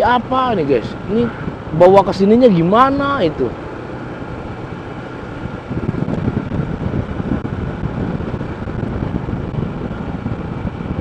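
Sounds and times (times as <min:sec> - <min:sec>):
scooter engine running: 0:00.0 - 0:11.0
wind buffeting microphone: 0:00.0 - 0:11.0.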